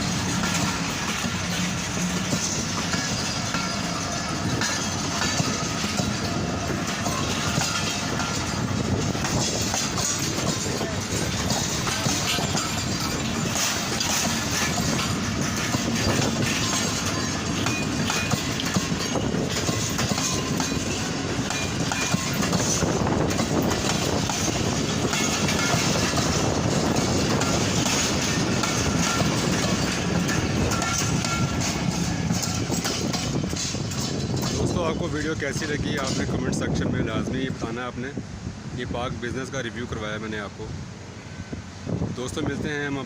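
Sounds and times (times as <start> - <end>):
wheels clacking over rail joints: 0.0 - 37.9
train rumbling on rails: 0.0 - 43.0.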